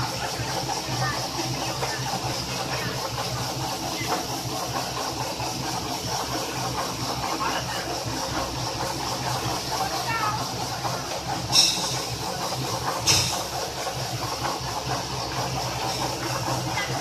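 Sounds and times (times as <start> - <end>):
motor hum: 0.0 - 17.0
water spraying from nozzles: 0.0 - 17.0.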